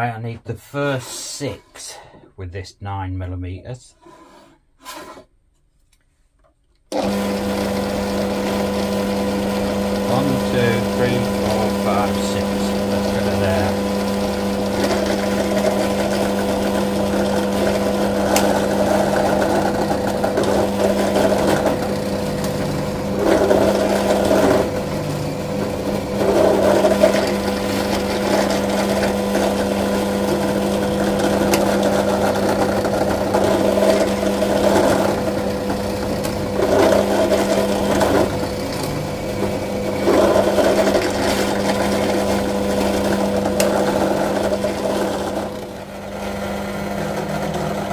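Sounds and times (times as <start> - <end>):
electric drill boring wood: 6.9 - 47.9.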